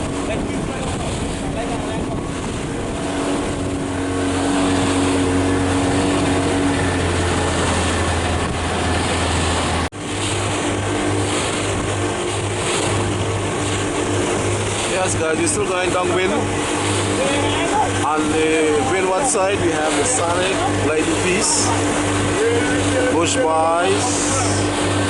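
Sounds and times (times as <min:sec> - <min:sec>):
motorboat engine running: 0:00.0 - 0:25.0
rushing wind: 0:00.0 - 0:25.0
water noise: 0:00.0 - 0:25.0.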